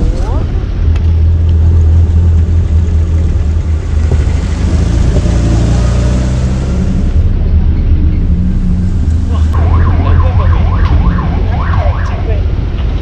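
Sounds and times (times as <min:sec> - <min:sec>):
heavy low rumble: 0:00.0 - 0:13.0.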